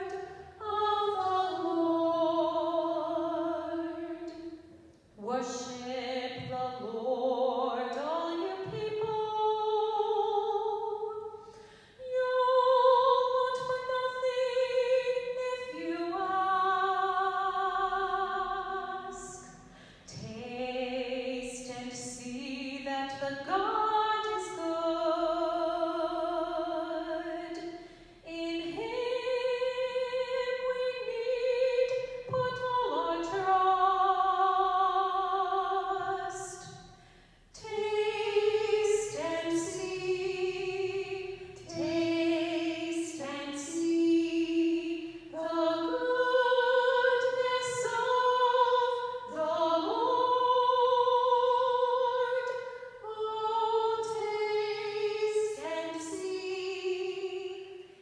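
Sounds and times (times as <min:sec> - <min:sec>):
woman singing chant: 0:00.0 - 0:04.6, 0:05.2 - 0:11.3, 0:12.0 - 0:36.8, 0:37.6 - 0:57.9.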